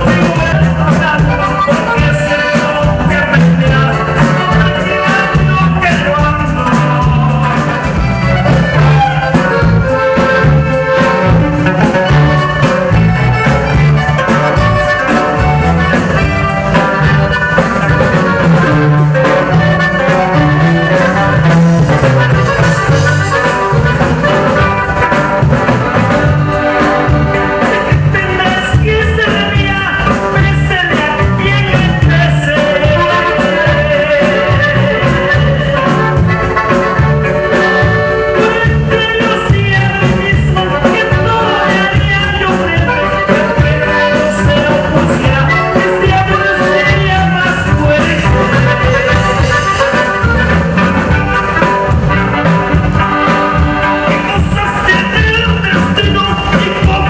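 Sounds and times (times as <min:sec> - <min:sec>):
accordion: 0:00.0 - 0:57.0
beat and bass: 0:00.0 - 0:57.0.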